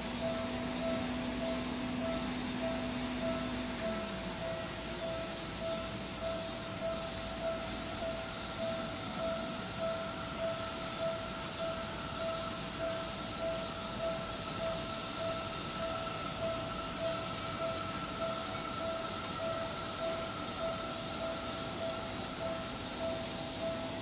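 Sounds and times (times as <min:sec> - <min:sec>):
electric train running slowly: 0:00.0 - 0:24.0
level-crossing warning bell ringing: 0:00.0 - 0:24.0
steady high hiss: 0:00.0 - 0:24.0.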